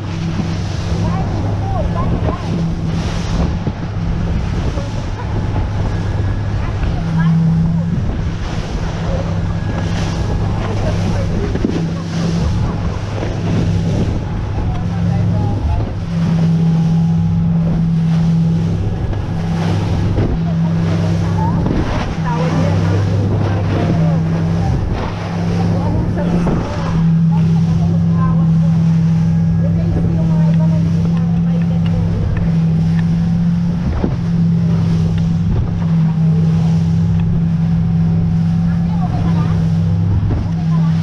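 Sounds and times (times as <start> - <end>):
hull splashing through water: 0.0 - 41.0
motorboat engine running: 0.0 - 41.0
wind buffeting microphone: 0.0 - 41.0.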